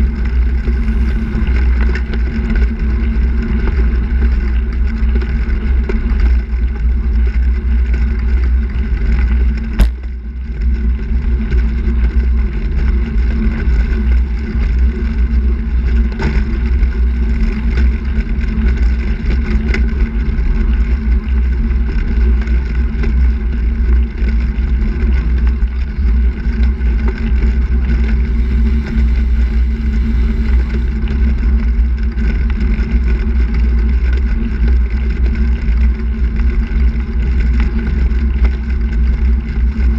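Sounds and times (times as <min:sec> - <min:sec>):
tyre and road noise: 0:00.0 - 0:39.9
wind buffeting microphone: 0:00.0 - 0:39.9.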